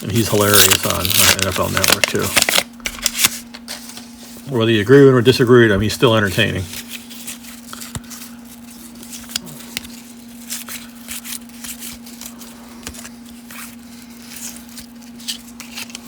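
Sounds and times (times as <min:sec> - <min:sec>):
cardboard cards scraping and flicking: 0:00.0 - 0:04.4, 0:06.4 - 0:16.0
steady low hum: 0:00.0 - 0:16.0.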